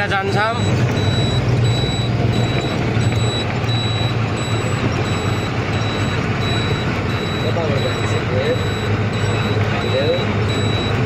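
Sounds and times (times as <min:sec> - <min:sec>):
truck engine running: 0:00.0 - 0:11.0
high-pitched electronic beep: 0:00.4 - 0:11.0.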